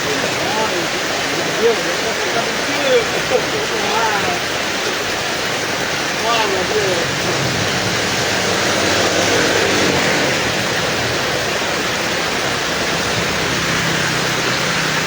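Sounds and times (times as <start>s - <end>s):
heavy rain in strong wind: 0.0s - 15.0s.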